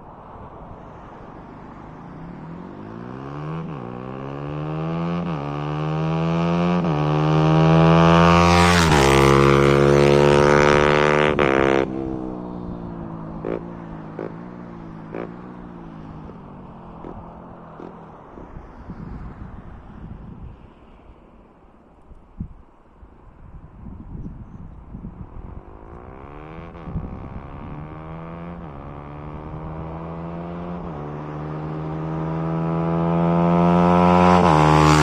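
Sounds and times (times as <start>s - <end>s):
motorcycle accelerating: 0.9s - 20.4s, 24.8s - 35.0s.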